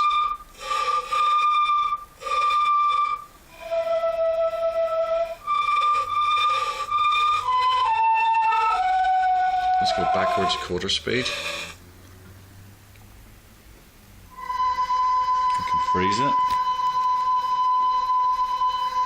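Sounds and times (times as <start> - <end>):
flute-like synthesizer notes: 0.0 - 11.8, 14.3 - 19.0.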